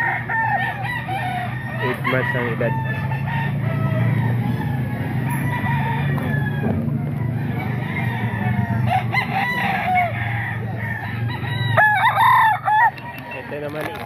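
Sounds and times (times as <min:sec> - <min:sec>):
roosters crowing and clucking: 0:00.0 - 0:14.0.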